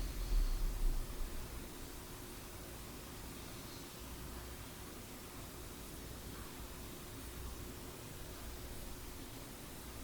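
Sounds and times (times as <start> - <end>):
faint low hum: 0.0 - 10.0
steady background hiss: 0.0 - 10.0
thin steady tone: 0.0 - 10.0.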